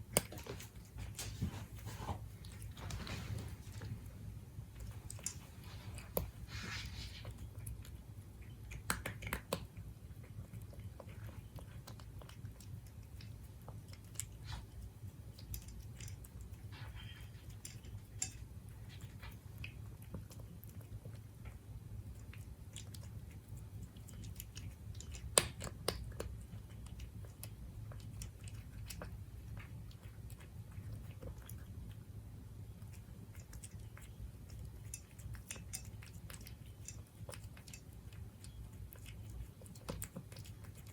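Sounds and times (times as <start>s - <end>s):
cat chewing and crunching food: 0.0s - 40.9s
steady low hum: 0.0s - 40.9s.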